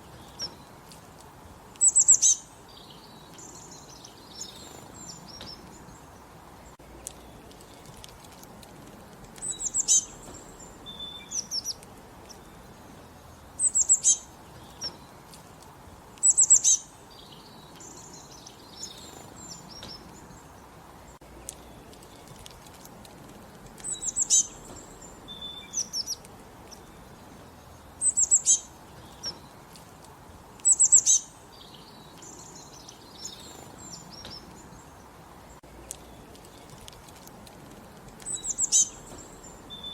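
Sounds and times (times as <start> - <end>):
soft bird chirps and twitters: 0.0 - 39.9
high-pitched birdsong phrase: 1.8 - 8.0, 9.4 - 15.2, 16.2 - 22.4, 23.8 - 29.6, 30.6 - 36.8, 38.2 - 39.9.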